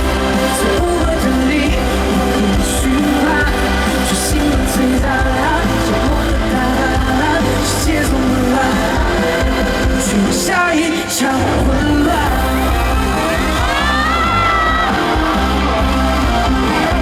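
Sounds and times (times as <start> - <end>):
live pop-rock band: 0.0 - 17.0
person singing: 0.0 - 17.0.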